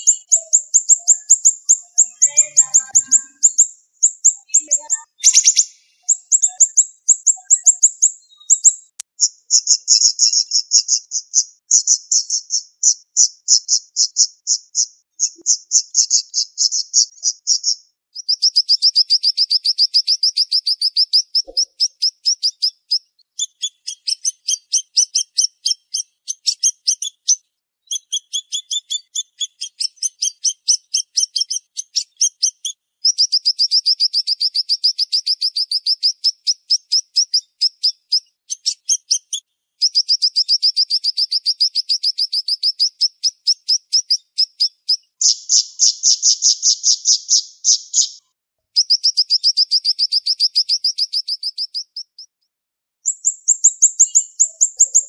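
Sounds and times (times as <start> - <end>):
songbird singing high chirps: 0.0 - 48.2, 48.8 - 52.4, 53.0 - 55.0.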